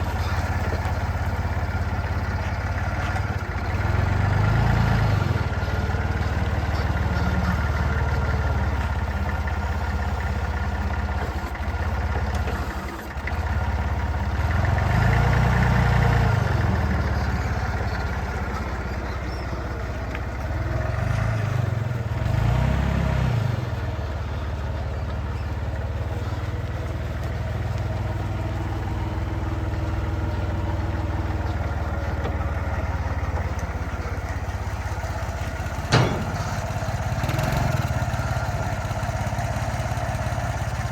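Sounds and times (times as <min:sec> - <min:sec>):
forklift engine running: 0:00.0 - 0:40.9.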